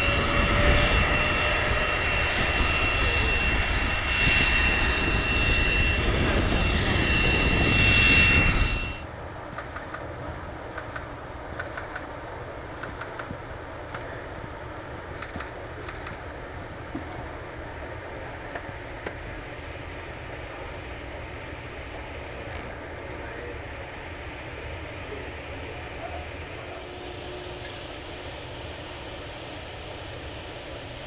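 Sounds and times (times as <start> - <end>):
jet engines roaring with whine: 0.0 - 31.0.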